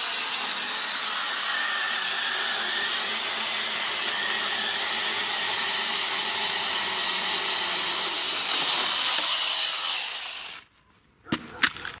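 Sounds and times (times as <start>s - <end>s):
chain saw cutting log: 0.0s - 10.7s.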